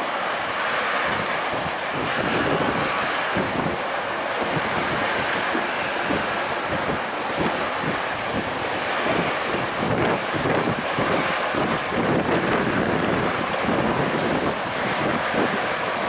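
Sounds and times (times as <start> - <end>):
freight train rumbling past: 0.0 - 16.0
wind on microphone: 0.0 - 16.0.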